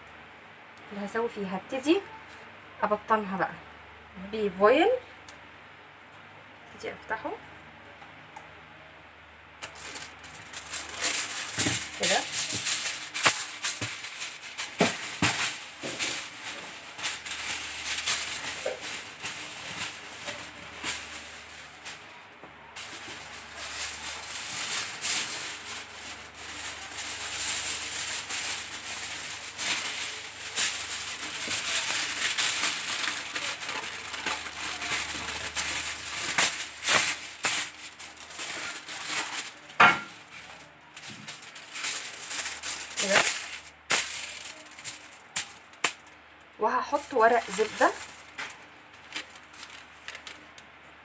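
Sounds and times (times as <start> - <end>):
aluminium foil crinkling: 9.5 - 50.8.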